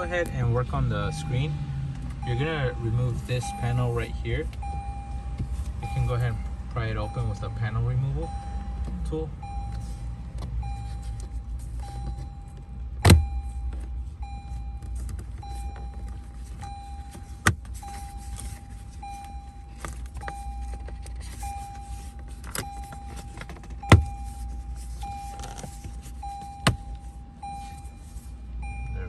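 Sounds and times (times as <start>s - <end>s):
car warning chime beeping: 0.0s - 29.0s.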